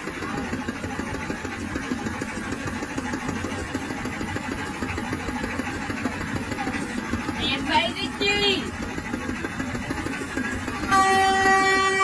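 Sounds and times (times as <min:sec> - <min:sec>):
threshing machine rattling: 0:00.0 - 0:11.7
low engine drone: 0:00.0 - 0:12.0.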